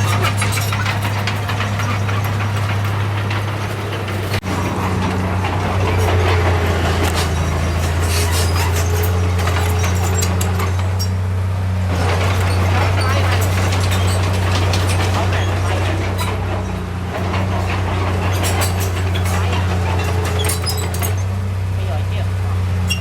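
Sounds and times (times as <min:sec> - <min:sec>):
metal clanks and rattles: 0:00.0 - 0:21.6
heavy diesel engine running: 0:00.0 - 0:23.0.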